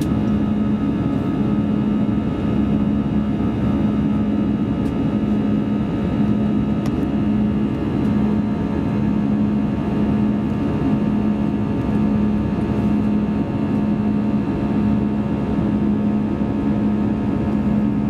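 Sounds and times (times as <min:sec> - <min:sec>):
jet engine drone: 0:00.0 - 0:18.0
low throbbing hum: 0:00.0 - 0:18.0.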